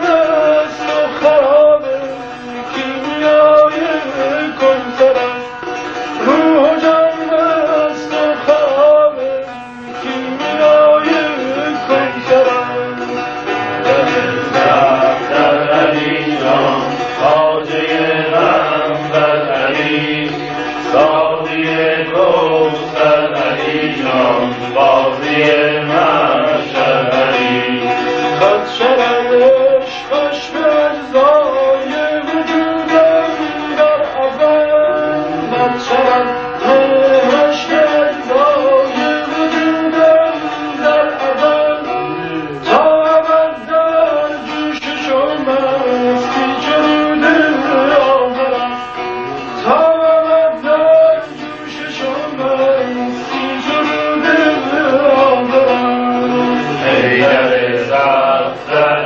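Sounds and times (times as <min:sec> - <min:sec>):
plucked long-necked lute melody: 0:00.0 - 0:59.0.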